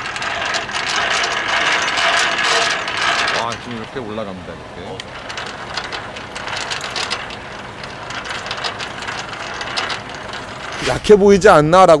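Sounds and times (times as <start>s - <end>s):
hand crank clicking: 0.0s - 3.8s, 5.0s - 10.8s.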